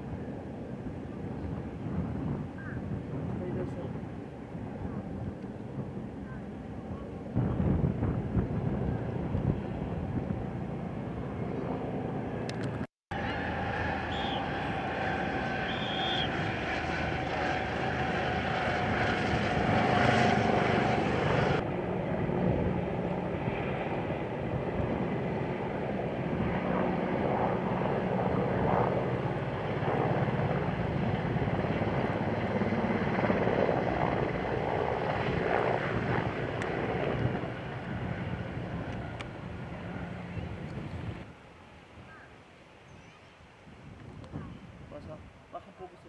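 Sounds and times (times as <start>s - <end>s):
helicopters flying past: 0.0s - 41.4s
high turbine whine: 0.0s - 42.3s.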